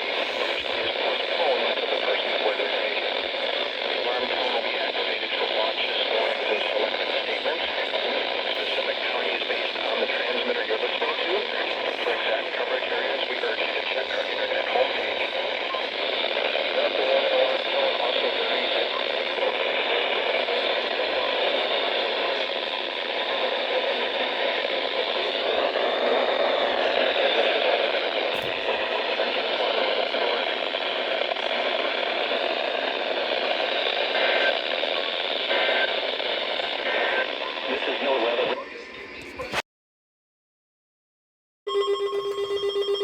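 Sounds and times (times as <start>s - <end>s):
radio static hiss: 0.0s - 39.6s.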